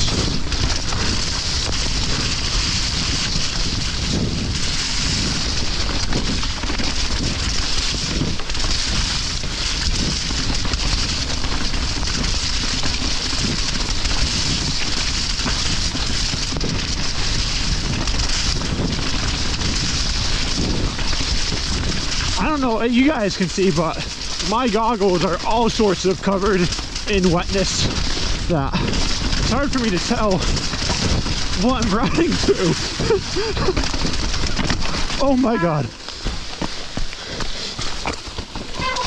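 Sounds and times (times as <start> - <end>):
rain hissing: 0.0 - 39.0
tyres through mud and water: 0.0 - 39.0
wind buffeting microphone: 0.0 - 39.0.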